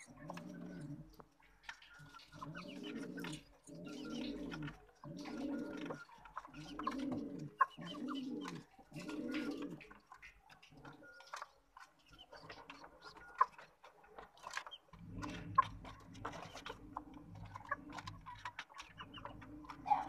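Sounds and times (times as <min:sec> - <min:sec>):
pigeon cooing: 0:00.0 - 0:01.3, 0:02.0 - 0:11.4, 0:14.4 - 0:20.0.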